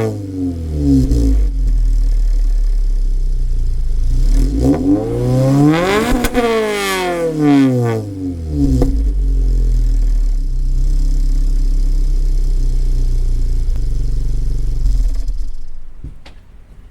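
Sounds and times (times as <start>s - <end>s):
car engine revving and idling: 0.0s - 16.2s.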